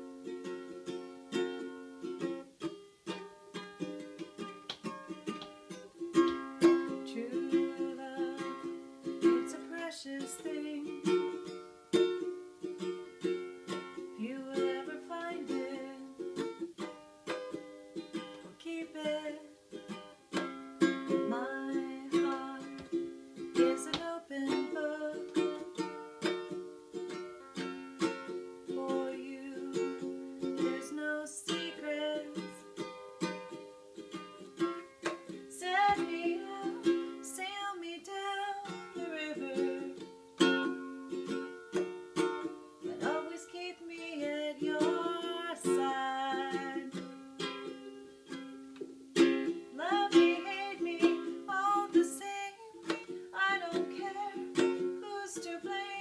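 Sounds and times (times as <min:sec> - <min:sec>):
ukulele strumming: 0:00.0 - 0:56.0.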